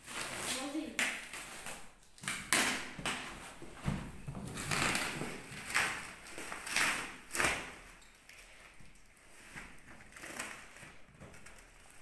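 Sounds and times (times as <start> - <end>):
plastic stretch wrap crinkling: 0.0 - 2.3, 3.1 - 12.0.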